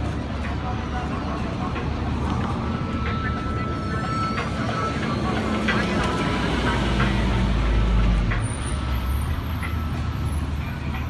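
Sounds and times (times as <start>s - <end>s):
traffic rumble: 0.0s - 11.0s
truck engine passing: 1.4s - 10.6s.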